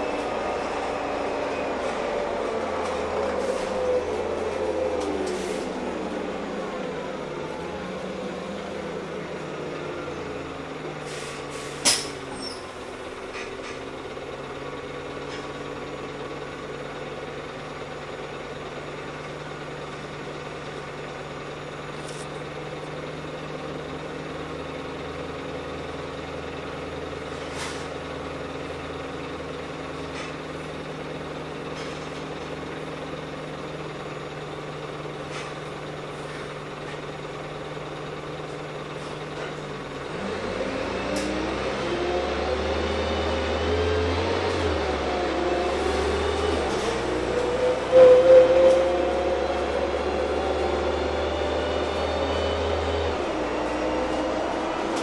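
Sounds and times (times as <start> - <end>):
bus engine idling and accelerating: 0.0 - 55.0.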